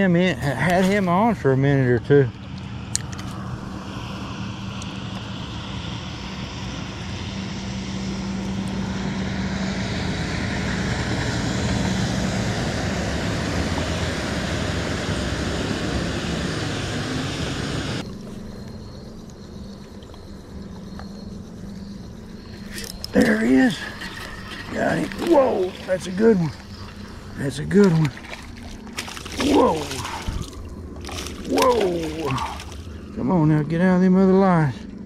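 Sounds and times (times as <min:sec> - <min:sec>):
engine drone with low hum: 0:00.0 - 0:35.0.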